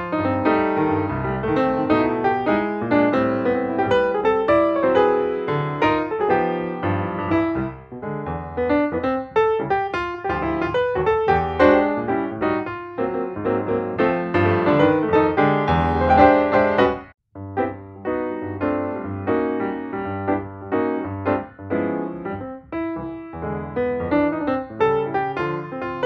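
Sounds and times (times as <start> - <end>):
background piano music: 0.0 - 26.0.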